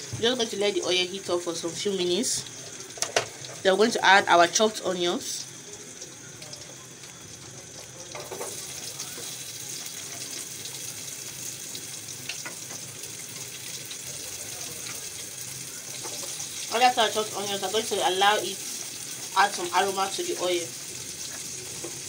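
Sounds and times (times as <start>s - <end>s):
oil sizzling in a pot: 0.0s - 22.0s.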